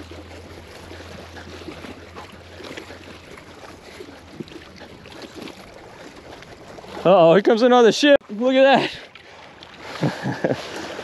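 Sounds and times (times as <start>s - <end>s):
water lapping against rocks: 0.0s - 11.0s
wind: 0.0s - 11.0s.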